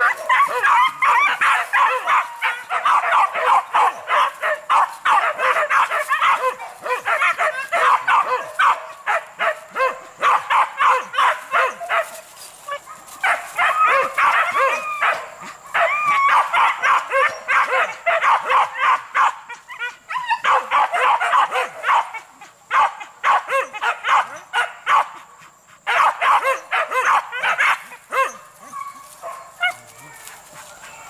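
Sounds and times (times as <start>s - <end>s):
dogs yelping and barking: 0.0s - 31.0s.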